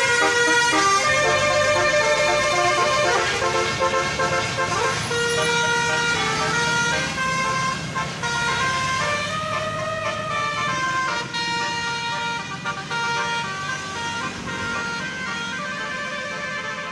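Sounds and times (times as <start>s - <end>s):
multi-tone bus horn melody: 0.0s - 16.9s.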